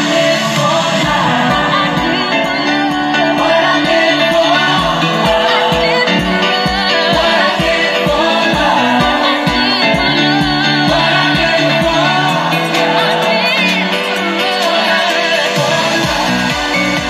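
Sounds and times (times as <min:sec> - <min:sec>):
heavy bass beat thumping: 0:00.0 - 0:13.8, 0:15.6 - 0:17.0
music with singing voice: 0:00.0 - 0:17.0.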